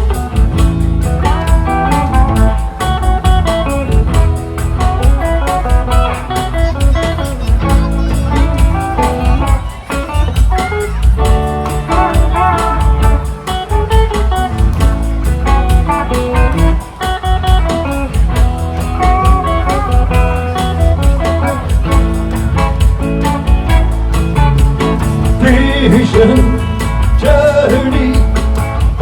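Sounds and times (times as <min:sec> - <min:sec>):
bass guitar: 0:00.0 - 0:29.0
drums: 0:00.0 - 0:29.0
lead guitar melody: 0:00.0 - 0:29.0
strummed guitar chords: 0:00.0 - 0:29.0.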